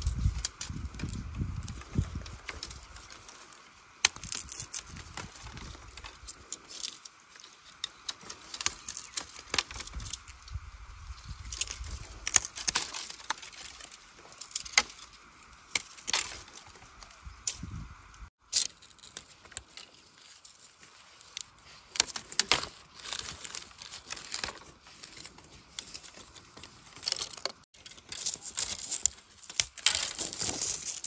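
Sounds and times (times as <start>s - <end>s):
dry bamboo canes crackling and snapping: 0.0s - 31.0s.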